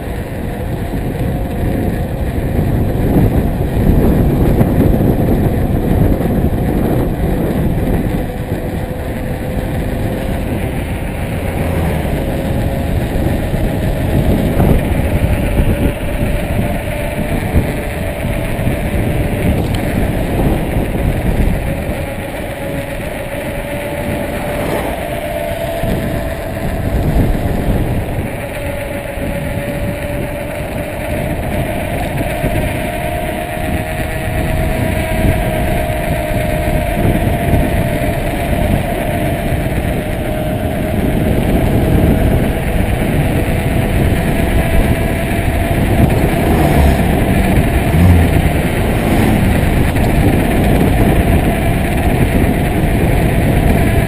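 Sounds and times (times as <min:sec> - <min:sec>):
heavy uneven rumble: 0:00.0 - 0:54.0
wind buffeting microphone: 0:00.0 - 0:54.0.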